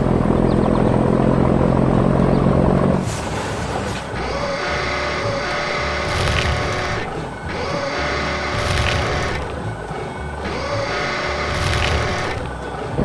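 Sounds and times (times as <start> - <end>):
heavy vehicle engine running: 0.0 - 13.0
quiet machinery: 0.0 - 13.0.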